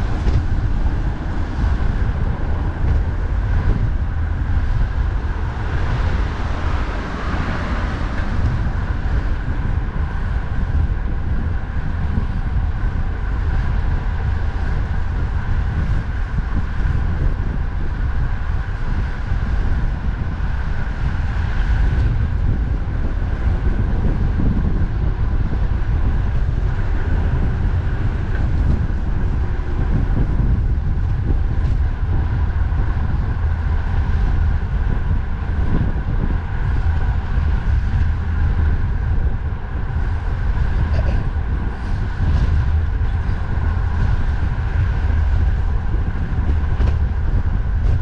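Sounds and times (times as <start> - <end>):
road and traffic noise: 0.0 - 48.0
wind buffeting microphone: 0.0 - 48.0.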